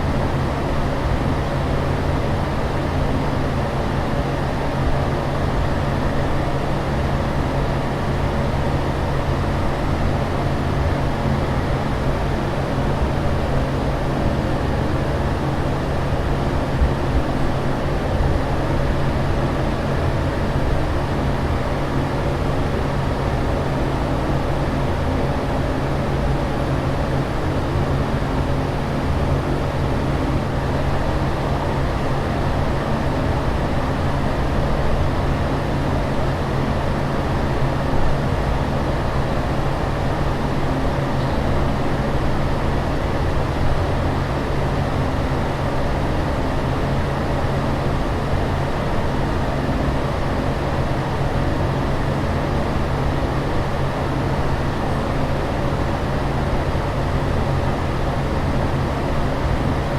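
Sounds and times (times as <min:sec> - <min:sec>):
constant low hum: 0:00.0 - 0:59.9.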